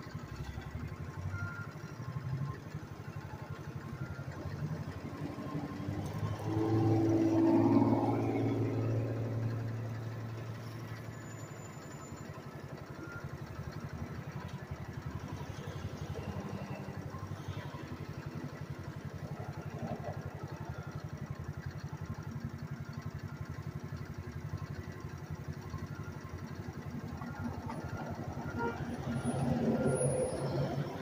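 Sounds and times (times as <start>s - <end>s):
small engine idling: 0.0s - 31.0s.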